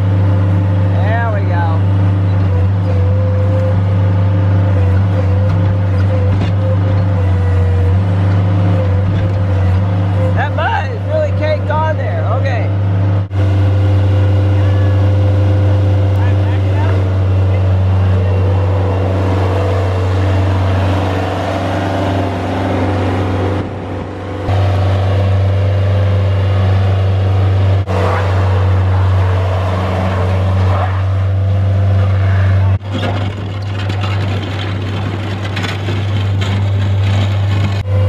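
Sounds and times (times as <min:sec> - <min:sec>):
diesel engine humming: 0:00.0 - 0:38.0.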